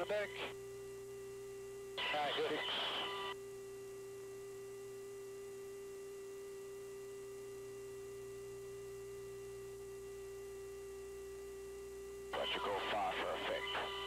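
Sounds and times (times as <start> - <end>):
intercom electrical hum: 0.0 - 14.0.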